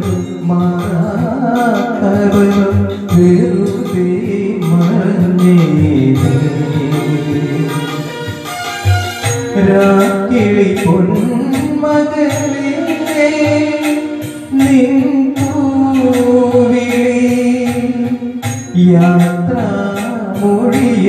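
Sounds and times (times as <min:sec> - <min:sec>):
backing music with percussion beat: 0:00.0 - 0:21.0
man singing into a microphone: 0:00.0 - 0:21.0.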